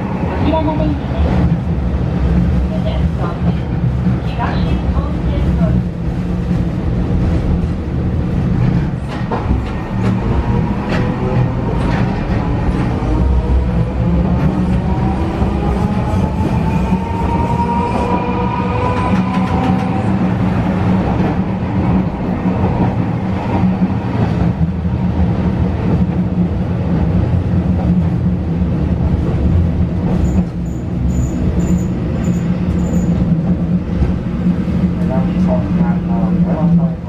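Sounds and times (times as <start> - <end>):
tram motor hum: 0.0 - 37.0
wheels rumbling on rail: 0.0 - 37.0.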